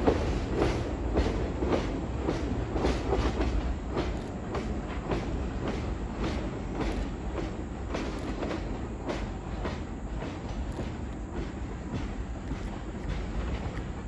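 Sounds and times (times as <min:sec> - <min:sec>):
train rumbling: 0:00.0 - 0:14.0
wheels clacking over rail joints: 0:00.0 - 0:14.0.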